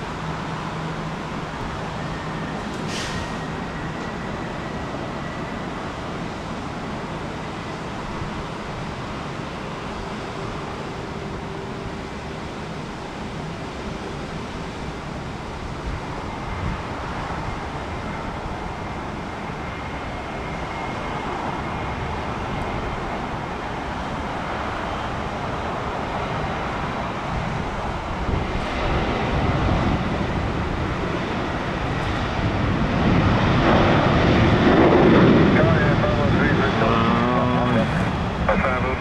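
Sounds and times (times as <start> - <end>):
faint high engine whine: 0.0 - 39.0
jet airliner engines running: 0.0 - 39.0.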